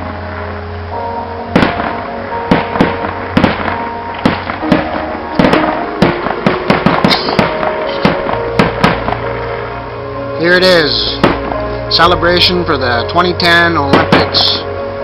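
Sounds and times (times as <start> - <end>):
fireworks banging: 0.9 - 9.7, 10.9 - 14.7
live music: 1.0 - 15.0.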